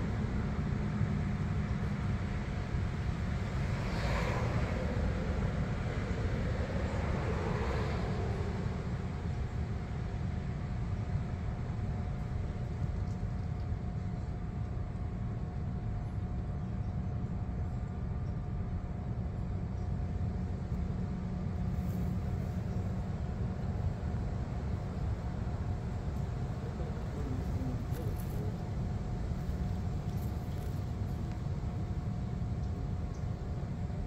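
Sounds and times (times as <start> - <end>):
low outdoor rumble: 0.0 - 34.0
faint even hum: 3.7 - 34.0.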